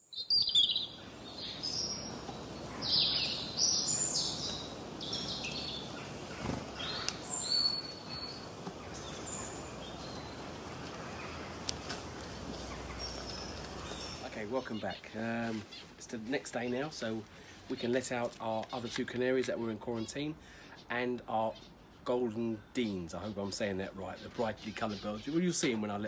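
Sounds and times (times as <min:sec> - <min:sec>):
small birds chirping: 0:00.0 - 0:26.0
steady background hiss: 0:00.8 - 0:26.0.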